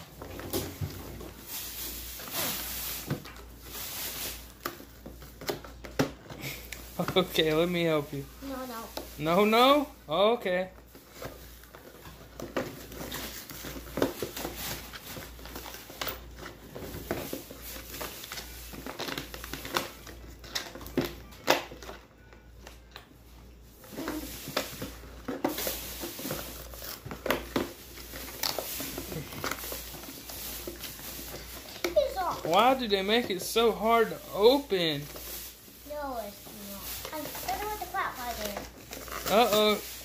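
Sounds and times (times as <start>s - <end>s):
toy packaging crinkling: 6.8s - 22.9s, 23.8s - 40.0s.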